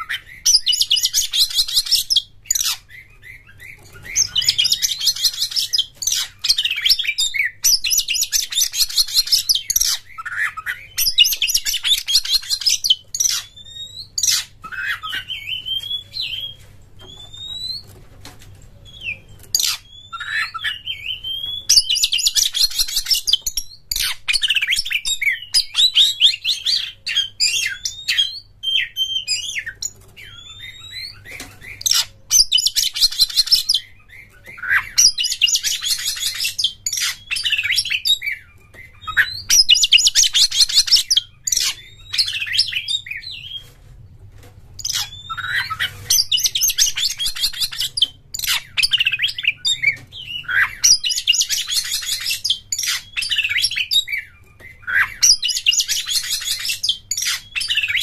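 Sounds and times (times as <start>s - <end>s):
bird singing whistles and chirps: 0.0s - 17.9s, 18.8s - 43.6s, 44.8s - 58.0s.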